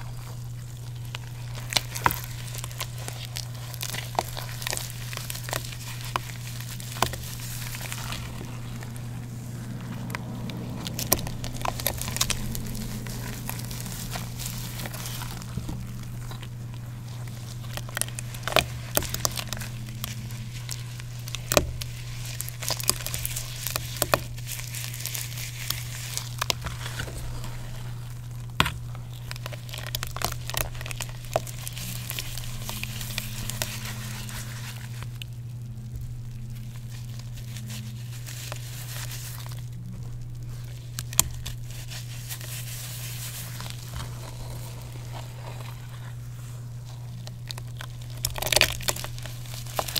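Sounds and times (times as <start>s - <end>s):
steady low hum: 0.0s - 49.9s
wet chalk crumbling by hand: 0.0s - 49.9s.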